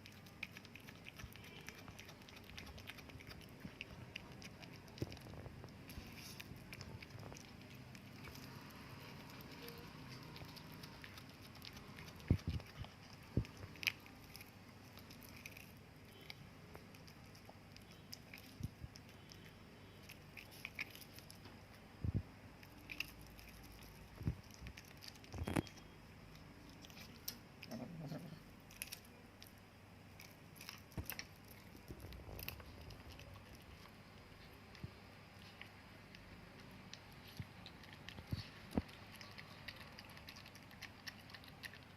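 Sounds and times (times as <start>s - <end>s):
cat crunching food: 0.0s - 21.8s, 22.6s - 41.9s.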